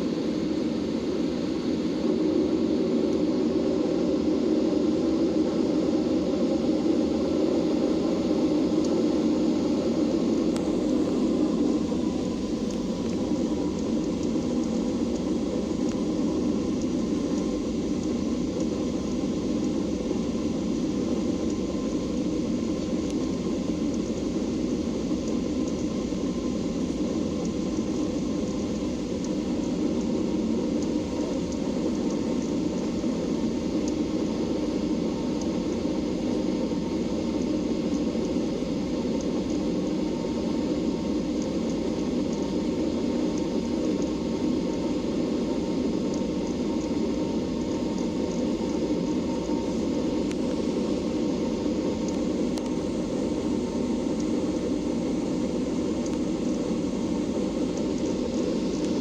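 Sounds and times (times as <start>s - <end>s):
airplane cabin noise: 0.0s - 59.0s
faint steady whine: 0.0s - 59.0s.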